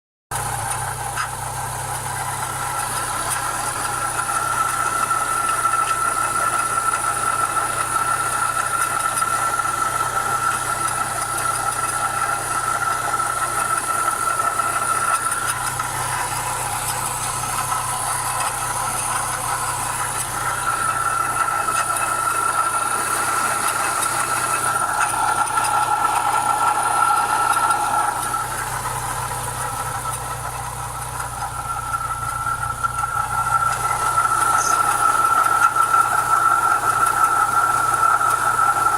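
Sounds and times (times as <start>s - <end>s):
car engine idling: 0.3s - 38.9s.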